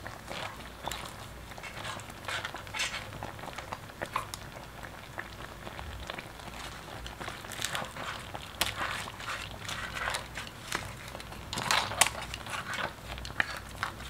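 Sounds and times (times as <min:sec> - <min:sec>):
porridge bubbles popping: 0:00.0 - 0:14.0.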